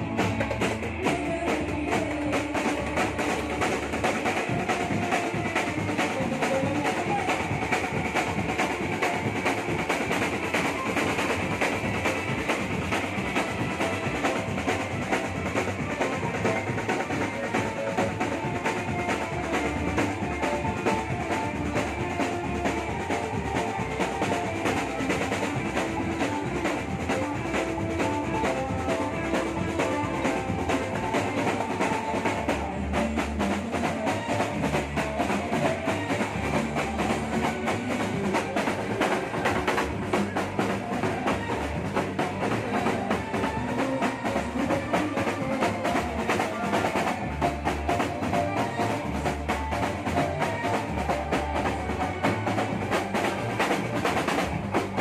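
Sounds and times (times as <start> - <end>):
bass drums beating: 0.0 - 55.0
marching drum band playing: 0.0 - 55.0.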